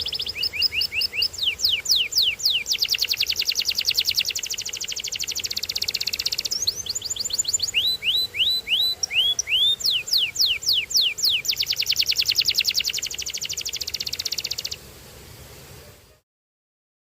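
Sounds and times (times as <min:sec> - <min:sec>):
canary singing: 0:00.0 - 0:14.8.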